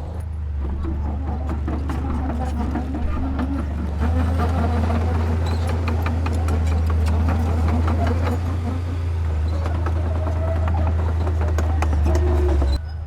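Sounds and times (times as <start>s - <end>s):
diesel engine droning: 0.0s - 13.0s
machinery clicks and clanks: 0.0s - 13.0s.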